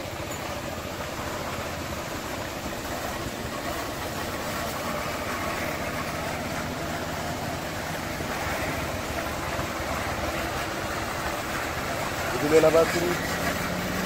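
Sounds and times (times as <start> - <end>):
low engine hum: 0.0 - 14.0
tyres rumbling on dirt road: 0.0 - 14.0.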